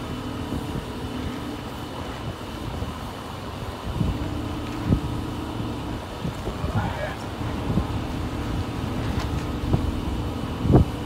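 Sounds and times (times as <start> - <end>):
diesel machinery humming: 0.0 - 11.0
wind on microphone: 0.0 - 11.0.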